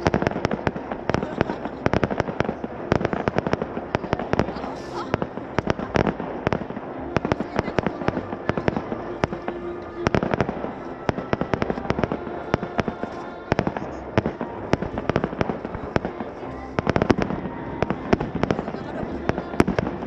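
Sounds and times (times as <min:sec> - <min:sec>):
continuous rumble: 0:00.0 - 0:20.0.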